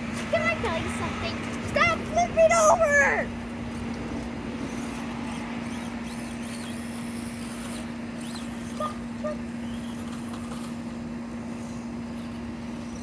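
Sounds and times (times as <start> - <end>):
outdoor background noise: 0.0 - 13.0
steady low hum: 0.0 - 13.0.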